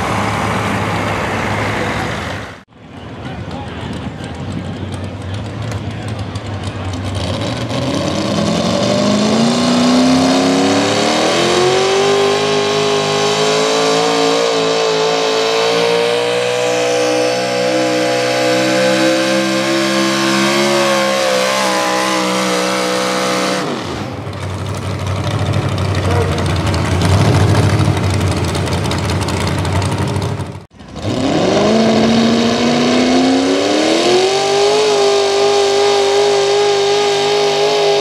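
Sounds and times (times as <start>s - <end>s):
truck engine revving at full throttle: 0.0s - 2.7s, 4.0s - 38.0s.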